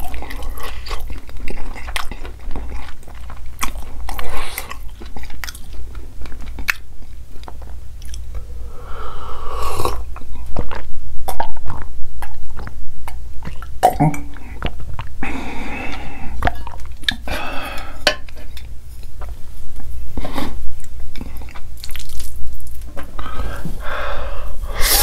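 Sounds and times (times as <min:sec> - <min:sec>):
person chewing noodles: 0:00.0 - 0:19.3, 0:19.9 - 0:25.0.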